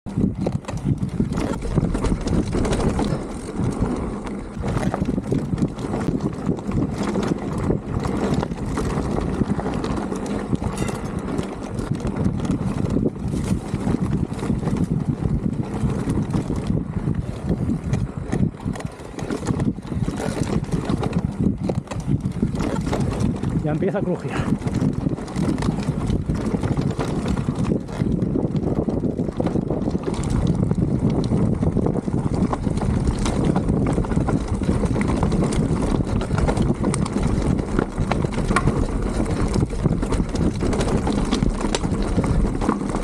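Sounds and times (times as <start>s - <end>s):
bike knocking and rattling: 0.1s - 43.0s
tyres rumbling over dirt and stones: 0.1s - 43.0s.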